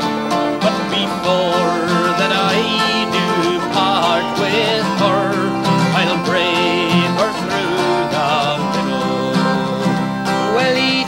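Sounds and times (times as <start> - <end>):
man singing with vibrato: 0.0 - 11.0
plucked acoustic strings: 0.0 - 11.0.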